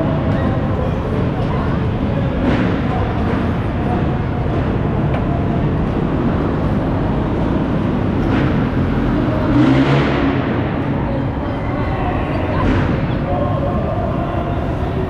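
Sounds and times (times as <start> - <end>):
bobsled ride cars rumbling: 0.0 - 15.0.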